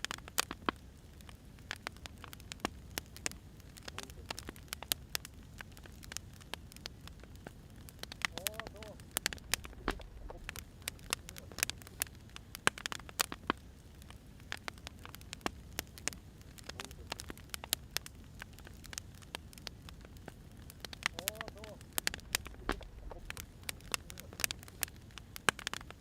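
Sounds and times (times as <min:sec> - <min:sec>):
low rumble of burning logs: 0:00.0 - 0:26.0
wood fire crackling: 0:00.0 - 0:26.0.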